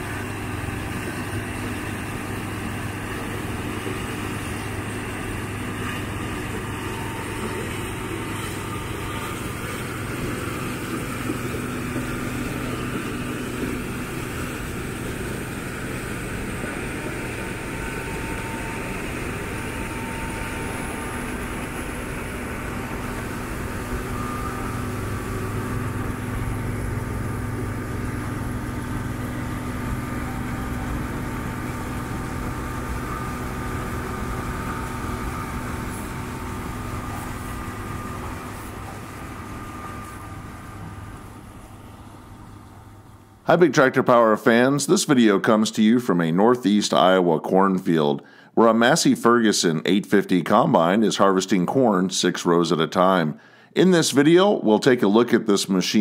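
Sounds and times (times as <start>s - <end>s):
combine harvester engine drone: 0.0s - 45.0s.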